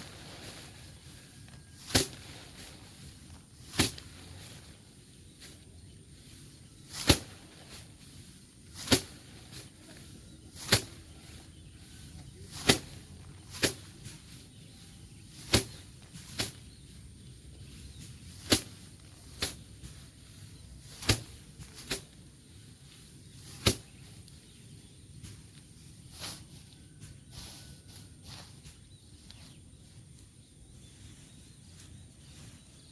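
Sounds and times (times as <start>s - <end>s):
rice stalks slapping threshing board: 0.0s - 30.0s.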